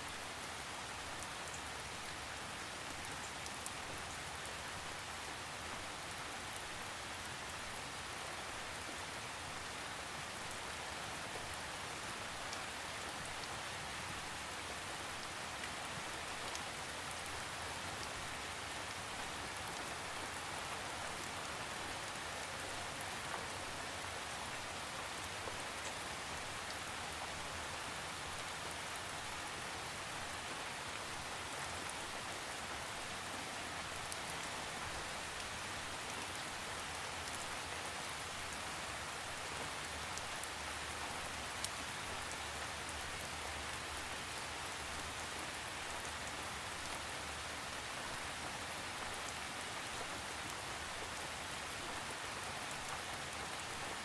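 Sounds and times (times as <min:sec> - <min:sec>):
raindrops ticking on a surface: 0:00.1 - 0:54.0.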